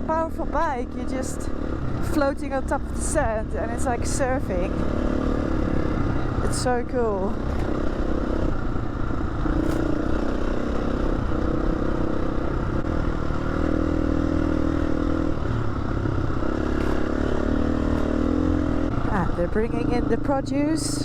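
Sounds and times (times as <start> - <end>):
engine clatter: 0.0 - 21.0
motorcycle engine running: 0.0 - 21.0.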